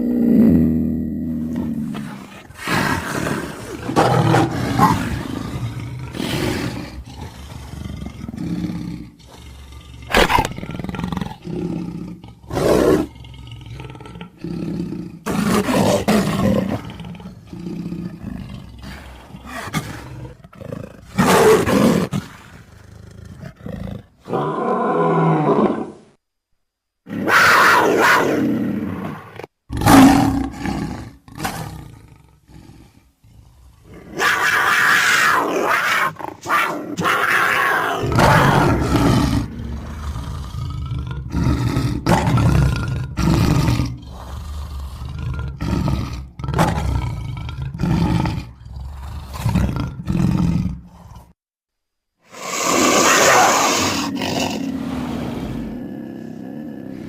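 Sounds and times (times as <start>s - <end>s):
big cat roaring and growling: 0.0s - 26.0s, 27.1s - 51.4s, 52.3s - 57.0s.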